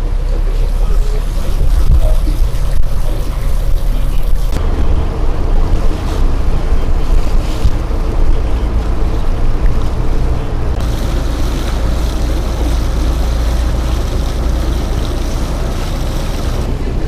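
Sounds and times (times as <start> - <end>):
boat engine rumble: 0.0 - 17.0
water rushing past: 0.0 - 17.0
wind buffeting microphone: 1.2 - 17.0.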